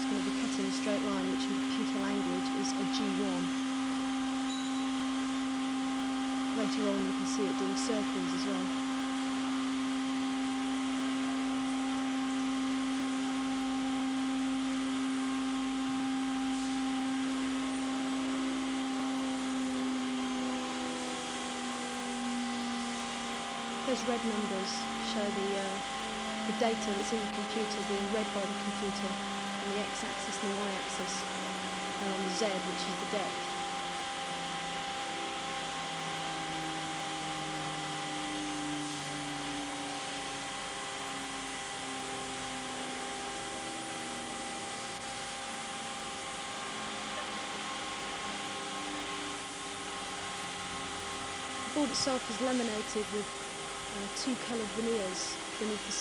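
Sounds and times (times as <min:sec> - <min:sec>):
low hum shifting in pitch: 0:00.0 - 0:48.3
cnc router running: 0:00.0 - 0:56.0.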